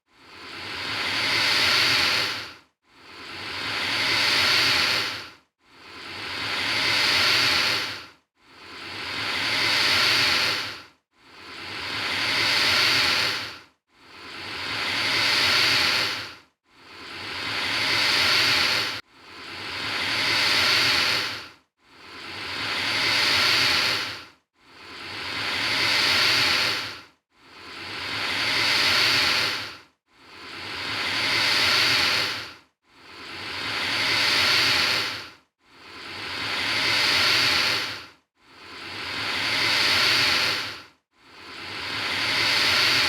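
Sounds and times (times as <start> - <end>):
alligator hissing: 0.2 - 5.2, 5.9 - 8.0, 8.7 - 10.8, 11.4 - 13.6, 14.2 - 27.0, 27.6 - 35.3, 35.9 - 38.0, 38.7 - 40.8, 41.4 - 43.0.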